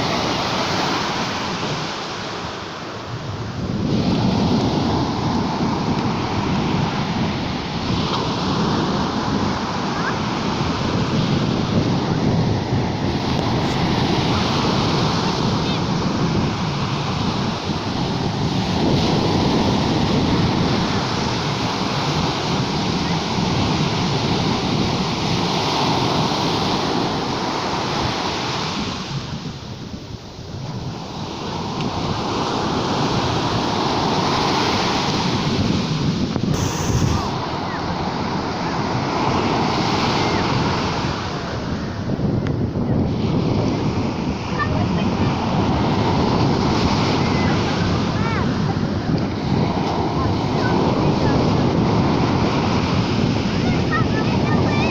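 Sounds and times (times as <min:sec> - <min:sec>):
sea waves breaking on shore: 0:00.0 - 0:54.9
surf rushing: 0:00.0 - 0:54.9
wind rumbling on microphone: 0:00.0 - 0:54.9.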